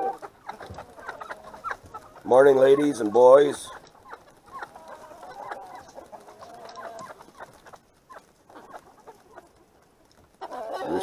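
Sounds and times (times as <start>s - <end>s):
roosters and hens clucking: 0.0s - 11.0s.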